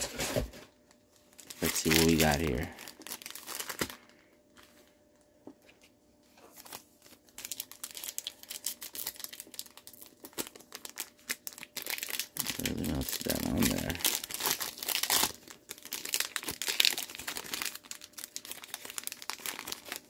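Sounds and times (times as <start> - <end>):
wrapper crinkling and tearing: 0.0 - 4.4, 6.4 - 20.0.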